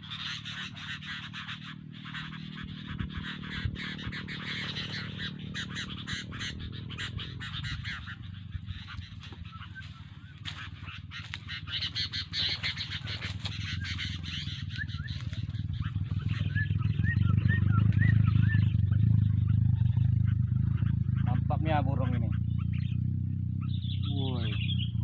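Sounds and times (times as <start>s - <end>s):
birds chattering: 0.0s - 25.0s.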